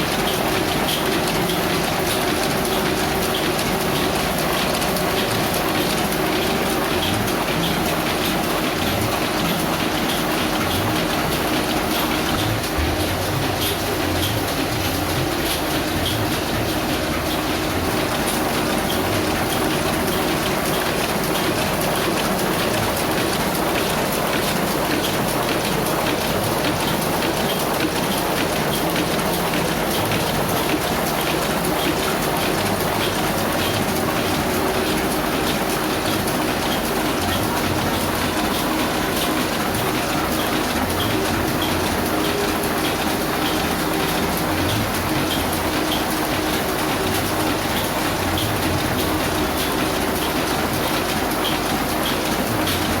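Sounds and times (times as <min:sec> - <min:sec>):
printing press clattering: 0:00.0 - 0:53.0.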